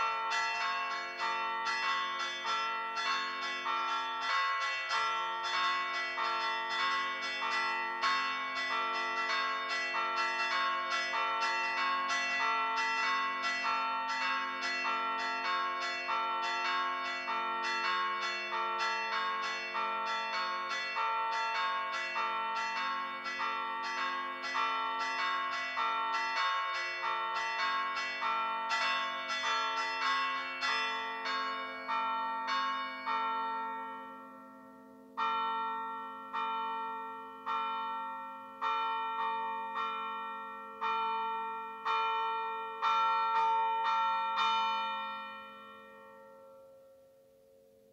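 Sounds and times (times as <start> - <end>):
church bells struck by hand: 0.0 - 47.9.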